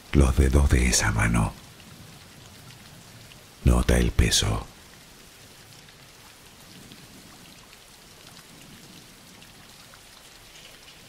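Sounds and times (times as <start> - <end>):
steady rain hiss: 0.0 - 11.0
faint raindrop ticks: 0.1 - 11.0.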